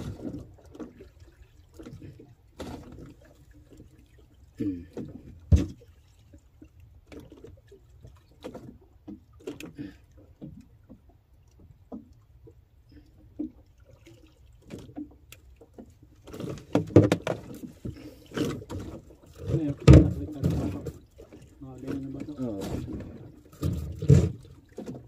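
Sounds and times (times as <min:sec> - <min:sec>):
knocks and clicks against hull: 0:00.0 - 0:25.0
water lapping: 0:00.0 - 0:25.0.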